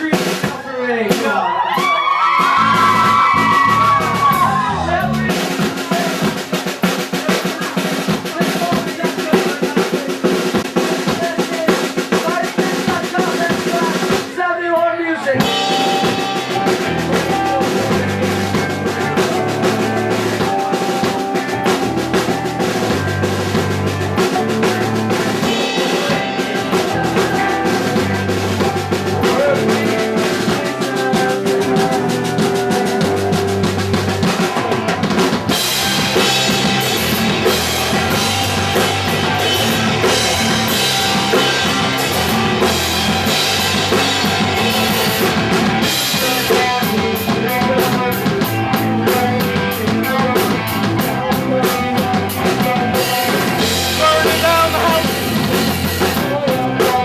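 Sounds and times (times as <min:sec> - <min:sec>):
fast loud drum kit: 0:00.0 - 0:57.0
punk rock band playing live: 0:00.0 - 0:57.0.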